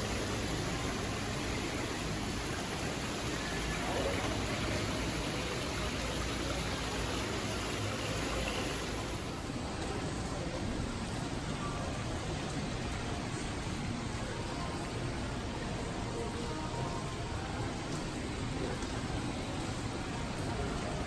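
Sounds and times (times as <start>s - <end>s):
faint voices: 0.0s - 21.0s
store noise wash: 0.0s - 21.0s.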